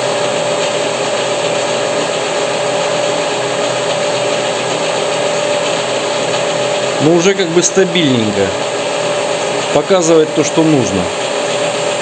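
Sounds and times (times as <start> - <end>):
lathe motor whining: 0.0 - 12.0
metal lathe humming: 0.0 - 12.0.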